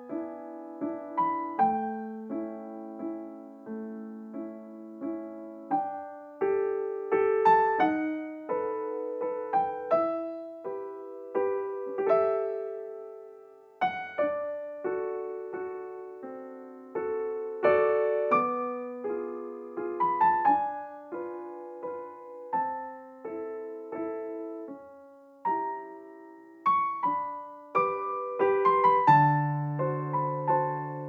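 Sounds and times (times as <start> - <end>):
slow piano music: 0.0 - 31.0.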